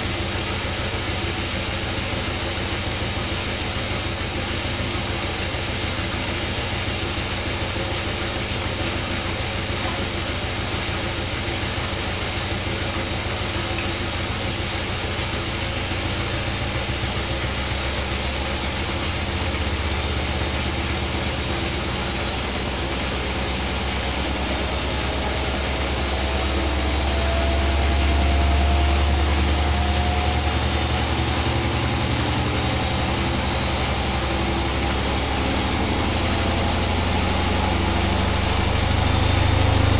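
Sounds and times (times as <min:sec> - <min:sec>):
motor whine rising in pitch: 0:00.0 - 0:39.9
washing machine drum spinning: 0:00.0 - 0:39.9.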